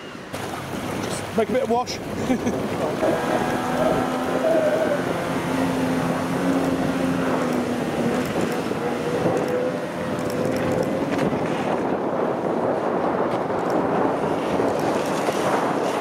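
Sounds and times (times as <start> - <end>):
boat wash rushing: 0.0 - 16.0
outboard motor drone: 0.0 - 16.0.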